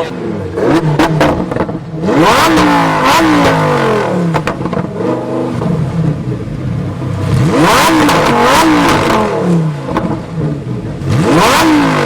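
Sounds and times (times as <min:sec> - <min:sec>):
sports car engine at full throttle: 0:00.0 - 0:12.0.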